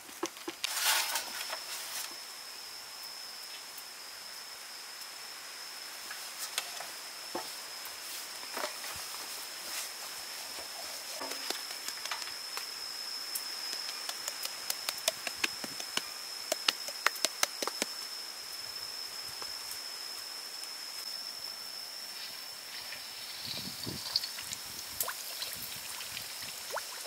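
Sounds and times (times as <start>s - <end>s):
insect buzzing: 0.8s - 27.0s.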